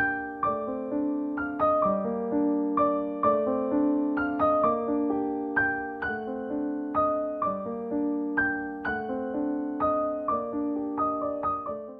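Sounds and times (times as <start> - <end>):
gentle piano melody: 0.0 - 11.9.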